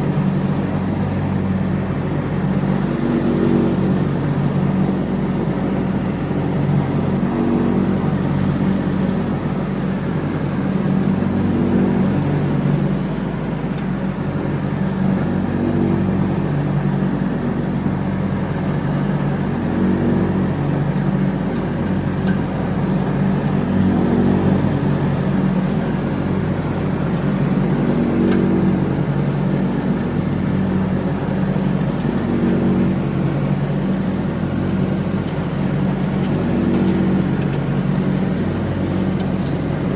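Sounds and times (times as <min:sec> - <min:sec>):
lawn tractor engine mowing: 0:00.0 - 0:39.9.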